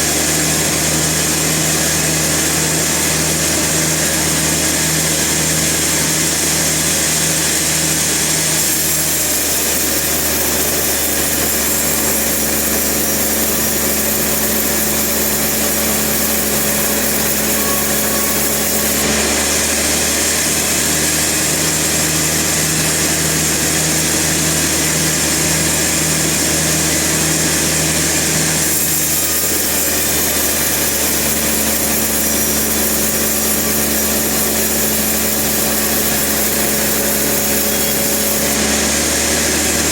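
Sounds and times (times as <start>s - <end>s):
saw cutting through timber: 0.0s - 39.9s
sawmill machinery running: 0.0s - 39.9s.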